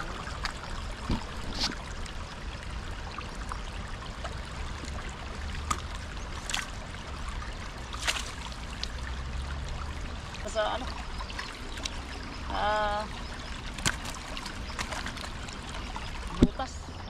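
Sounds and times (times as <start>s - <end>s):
river running over stones: 0.0s - 17.0s.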